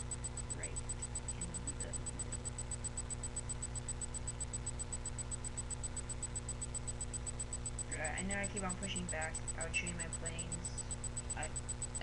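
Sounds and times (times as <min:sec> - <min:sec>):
electrical hum and hiss: 0:00.0 - 0:12.0
faint high-pitched ticking: 0:00.0 - 0:12.0.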